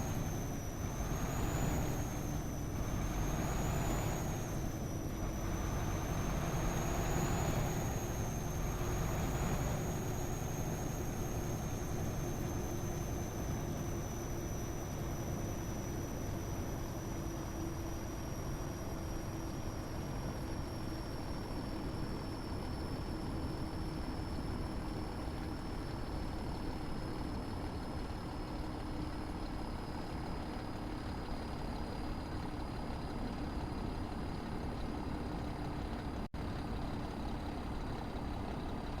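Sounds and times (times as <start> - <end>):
motor running with low hum: 0.0 - 39.0.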